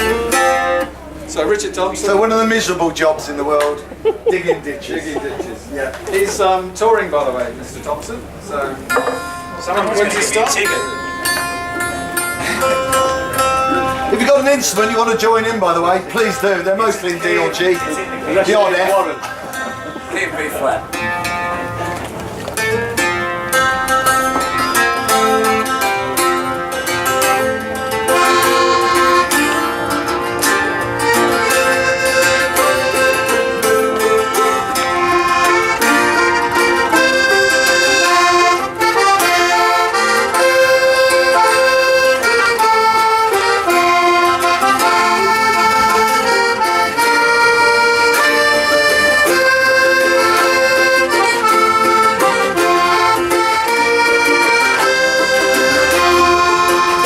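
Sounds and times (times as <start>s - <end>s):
accordion melody: 0.0s - 57.0s
acoustic guitar: 0.0s - 57.0s.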